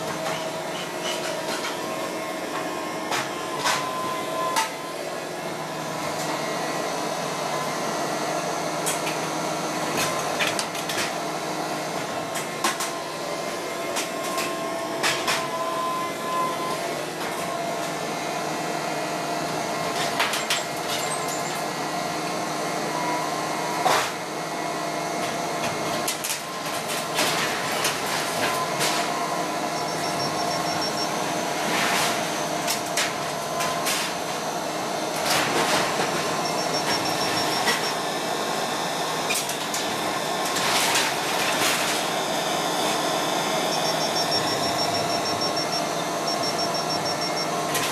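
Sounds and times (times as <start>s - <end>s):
excavator engine and hydraulics droning: 0.0s - 47.9s.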